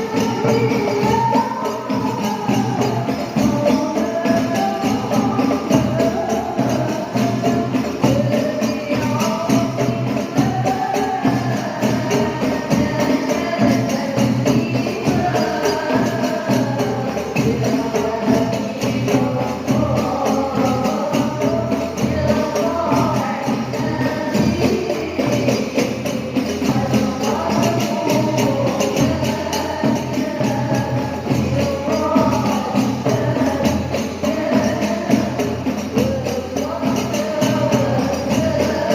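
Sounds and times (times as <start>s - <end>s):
frame drums with jingles: 0.0s - 38.9s
group of women singing: 0.0s - 38.9s.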